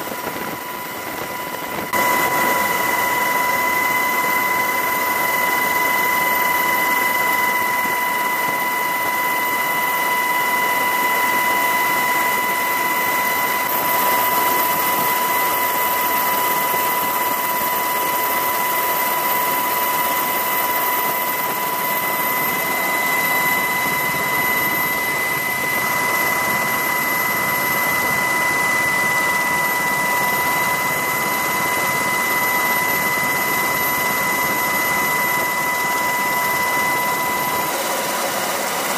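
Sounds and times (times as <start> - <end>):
helicopter turbine whine: 0.0 - 38.9.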